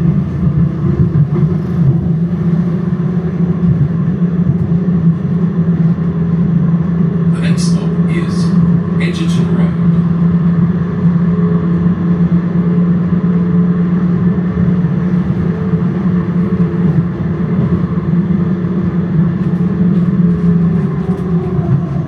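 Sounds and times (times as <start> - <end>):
tram motors and wheels humming: 0.0 - 22.0.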